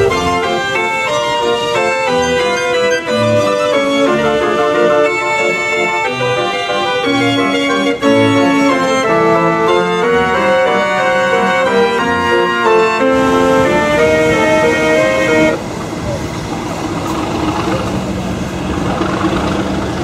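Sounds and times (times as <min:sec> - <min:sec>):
fairground organ playing: 0:00.0 - 0:20.0.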